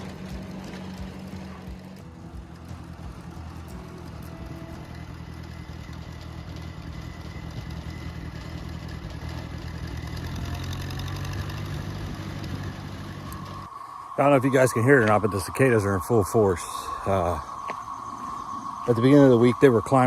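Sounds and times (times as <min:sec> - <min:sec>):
cicadas humming: 0:00.0 - 0:20.0
engine idling: 0:00.0 - 0:20.0.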